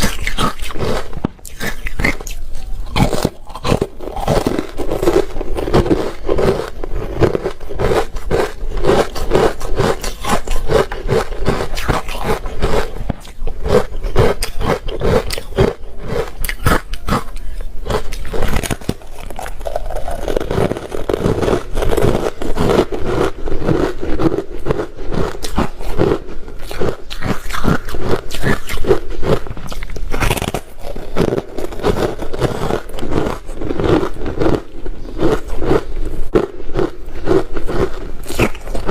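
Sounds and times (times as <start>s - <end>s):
ice being chewed crunching: 0.0s - 38.9s.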